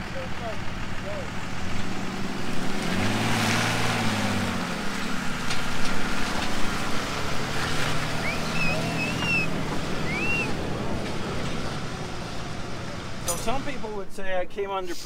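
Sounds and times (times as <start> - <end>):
pickup truck engine revving: 0.0 - 14.0.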